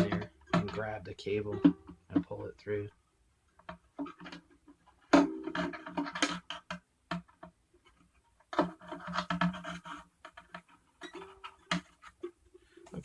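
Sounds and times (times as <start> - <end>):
clicks and scraping inside ukulele: 0.0 - 2.9, 3.5 - 13.0.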